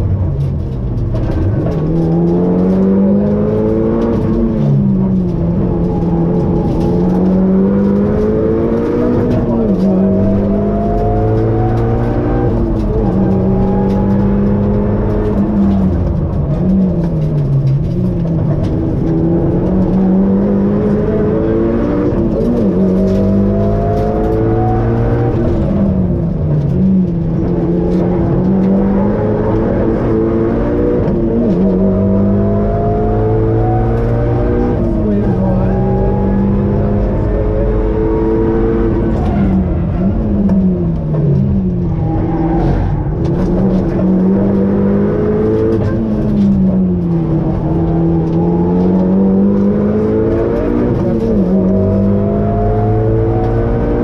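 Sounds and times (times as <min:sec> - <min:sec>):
rally car engine accelerating: 0:00.0 - 0:54.0.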